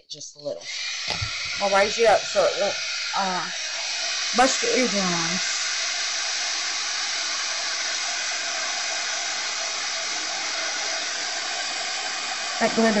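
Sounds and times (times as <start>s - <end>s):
heat gun blowing hot air: 0.6s - 13.0s.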